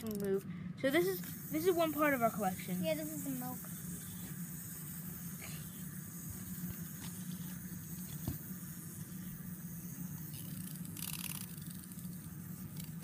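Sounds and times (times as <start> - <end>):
wind-up toy gears whirring: 0.0 - 0.4, 1.0 - 13.0.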